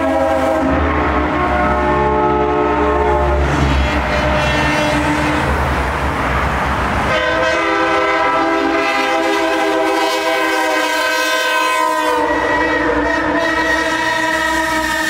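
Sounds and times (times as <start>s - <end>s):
truck air horn blaring: 0.0s - 5.6s, 7.1s - 15.0s.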